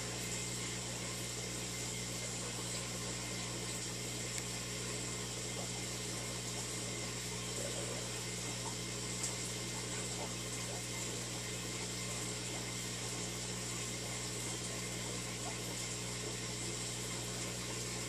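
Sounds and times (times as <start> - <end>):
aquarium filter pump hum: 0.0 - 18.0.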